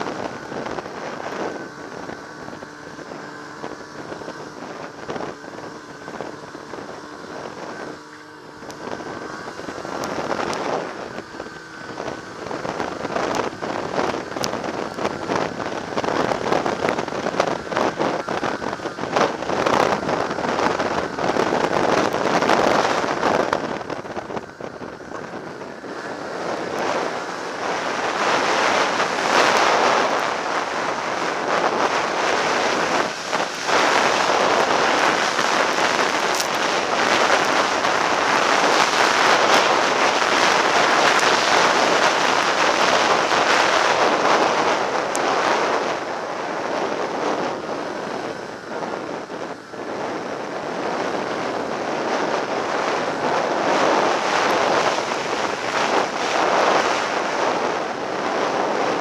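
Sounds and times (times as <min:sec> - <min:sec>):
snowmobile engine running: 0:00.0 - 0:59.0
wind noise on microphone: 0:00.0 - 0:59.0.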